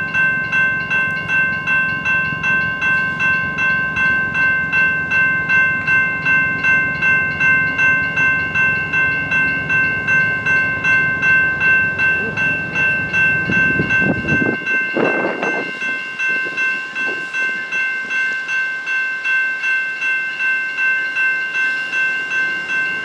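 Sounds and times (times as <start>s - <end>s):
bell ringing steadily: 0.0s - 23.0s
train running low: 0.0s - 23.0s.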